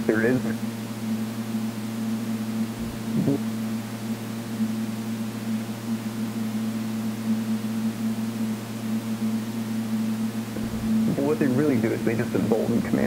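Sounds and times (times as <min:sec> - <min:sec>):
low electronic hum: 0:00.0 - 0:13.0.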